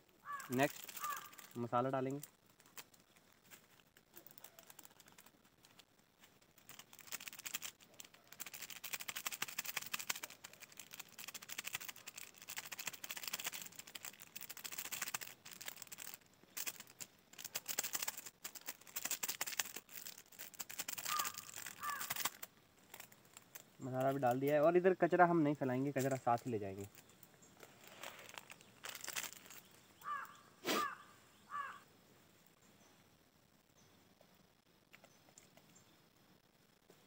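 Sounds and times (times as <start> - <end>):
plastic sachet crinkling: 0.0 - 30.4.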